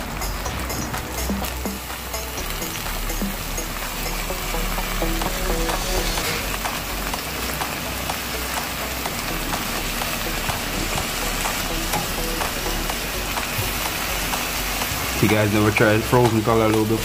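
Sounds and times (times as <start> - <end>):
food frying sizzle with crackles: 0.0 - 17.0.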